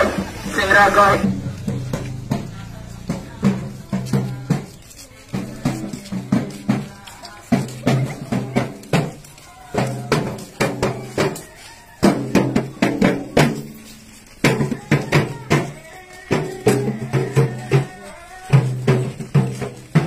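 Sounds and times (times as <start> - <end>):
drum strikes with deep ringing: 1.2 - 20.0.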